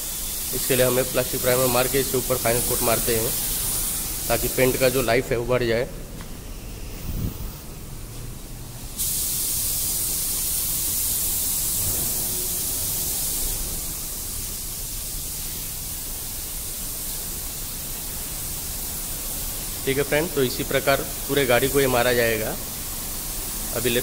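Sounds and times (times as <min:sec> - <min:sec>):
spray gun hissing: 0:00.0 - 0:24.0.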